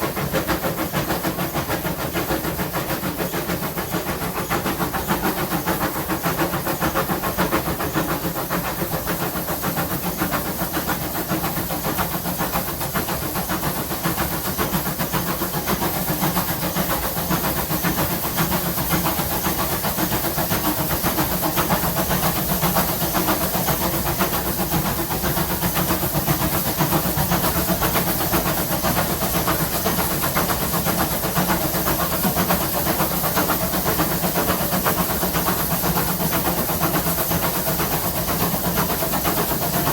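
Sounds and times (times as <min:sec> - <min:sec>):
steam hiss: 0:00.0 - 0:39.9
steam locomotive exhaust beats: 0:00.0 - 0:39.9
train running noise: 0:00.0 - 0:39.9.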